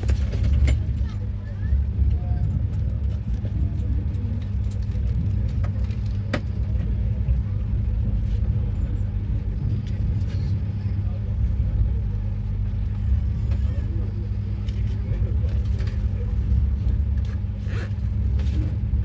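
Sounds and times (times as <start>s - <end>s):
moving vehicle rumble: 0.0s - 19.0s.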